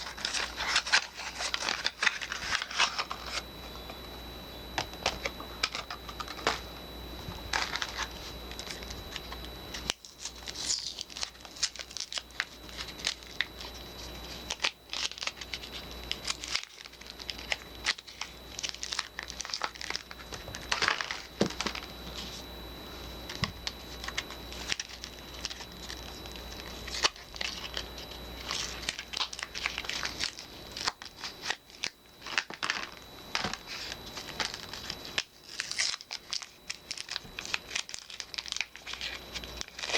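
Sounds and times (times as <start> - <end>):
wrapping crinkling and tearing: 0.0 - 3.5, 7.4 - 22.5, 23.3 - 39.9.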